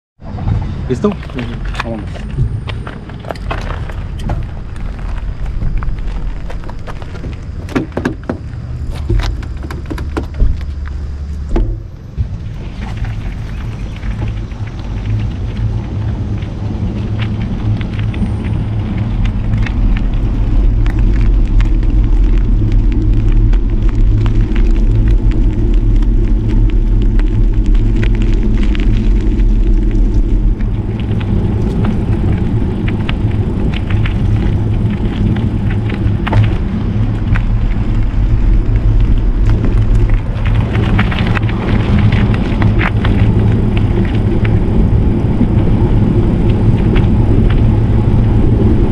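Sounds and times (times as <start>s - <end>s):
bicycle tyre noise: 0.2s - 48.9s
wind buffeting microphone: 0.2s - 48.9s.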